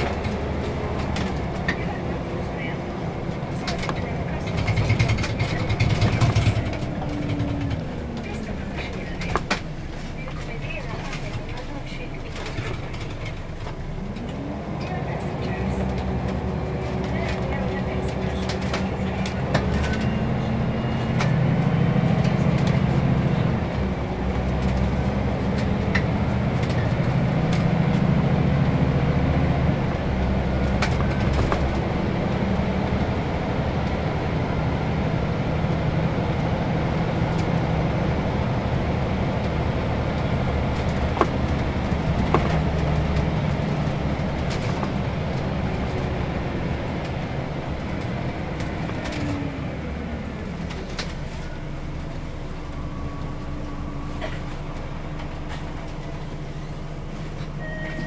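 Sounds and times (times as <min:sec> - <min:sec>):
bus body rattles and clicks: 0:00.0 - 0:58.0
bus diesel engine running: 0:00.0 - 0:58.0.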